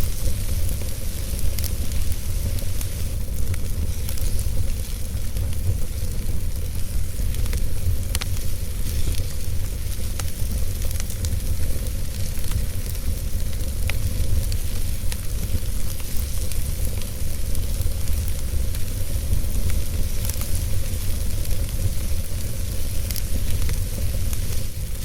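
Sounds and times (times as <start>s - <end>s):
fire crackling in a fireplace: 0.0s - 25.0s.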